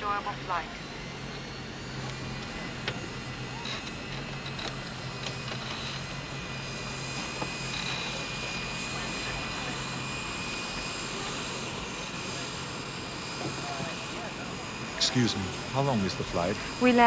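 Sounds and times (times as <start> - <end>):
airliner engines humming: 0.0 - 17.0.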